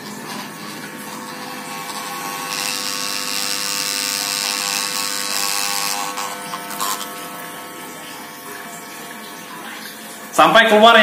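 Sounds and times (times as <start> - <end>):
hair clipper motor buzz: 0.0 - 10.2.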